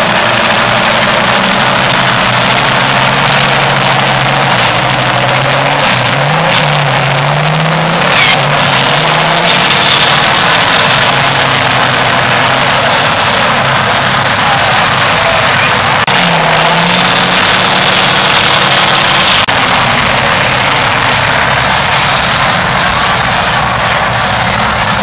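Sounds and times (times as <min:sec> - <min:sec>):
diesel truck engine under load: 0:00.0 - 0:25.0.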